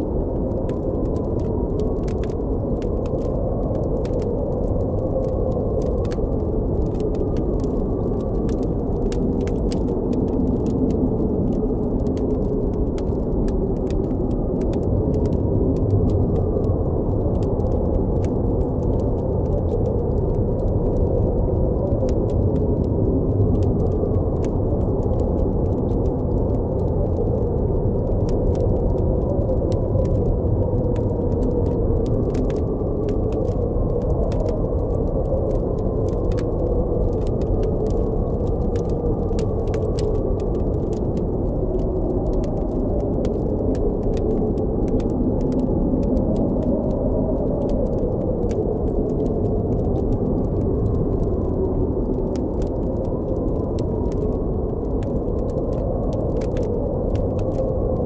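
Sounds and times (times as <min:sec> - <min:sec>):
campfire crackling and popping: 0:00.0 - 0:58.0
howling blizzard wind: 0:00.0 - 0:58.0.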